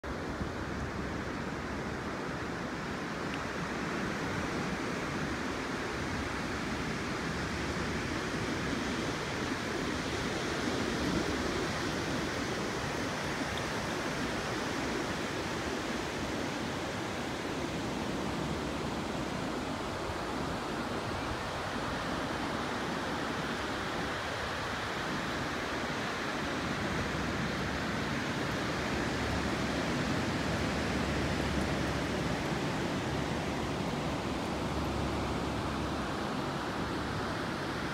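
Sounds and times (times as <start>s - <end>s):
ocean surf on beach: 0.0s - 37.9s.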